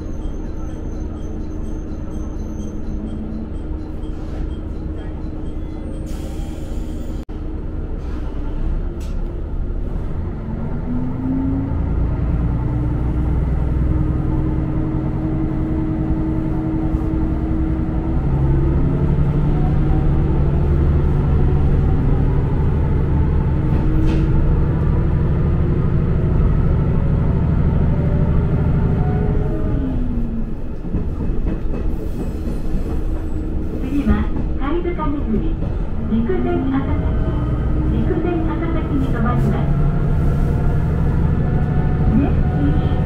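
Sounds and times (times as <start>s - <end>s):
train engine rumbling: 0.0s - 43.0s.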